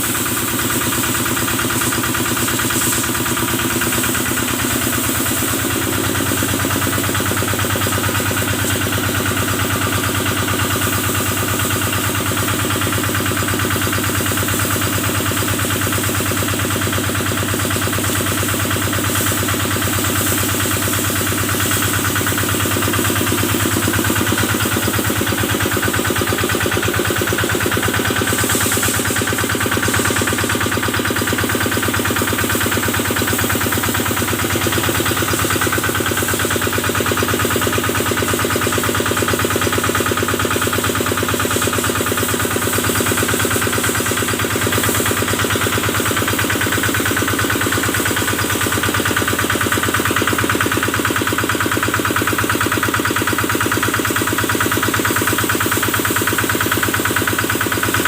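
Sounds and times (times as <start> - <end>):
small diesel engine running: 0.0 - 58.0.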